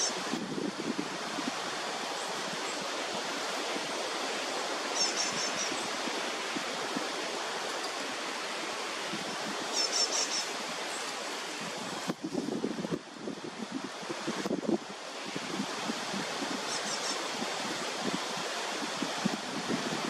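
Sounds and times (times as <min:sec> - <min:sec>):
steady rushing outdoor noise: 0:00.0 - 0:20.0.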